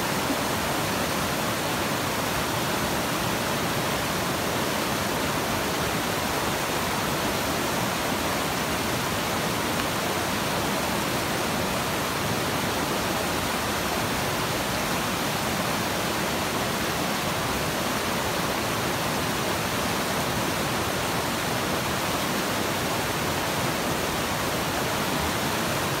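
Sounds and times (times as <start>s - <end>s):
river rapids rushing: 0.0s - 26.0s.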